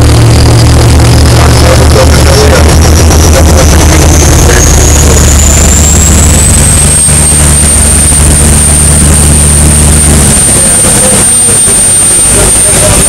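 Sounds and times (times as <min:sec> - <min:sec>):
boat engine drone: 0:00.0 - 0:13.0
high engine whine: 0:00.0 - 0:13.0.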